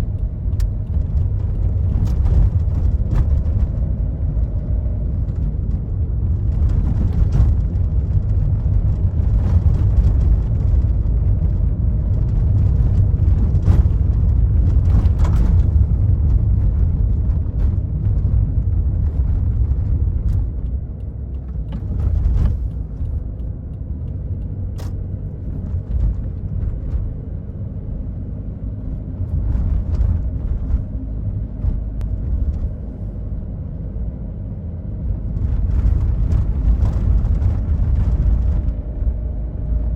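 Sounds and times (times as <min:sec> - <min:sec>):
car engine drone: 0:00.0 - 0:39.9
tyre and road rumble: 0:00.0 - 0:39.9.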